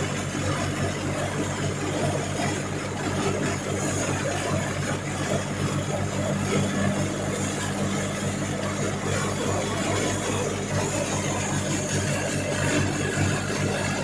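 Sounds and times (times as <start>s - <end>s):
thresher engine low hum: 0.0s - 14.0s.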